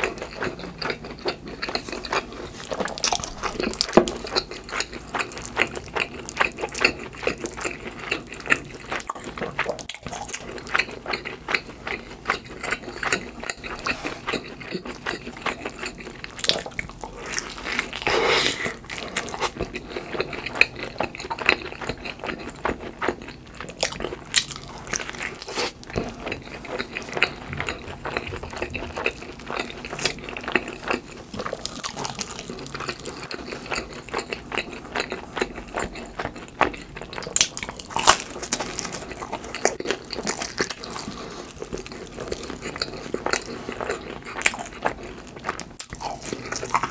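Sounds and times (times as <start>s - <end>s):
chewing crunchy food: 0.0s - 46.9s.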